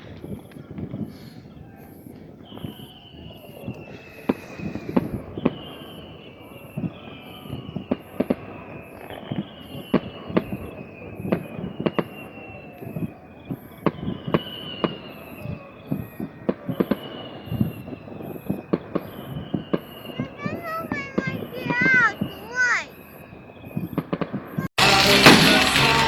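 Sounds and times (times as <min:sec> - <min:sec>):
fireworks bangs: 0:00.0 - 0:26.0
fireworks crackle: 0:00.0 - 0:26.0.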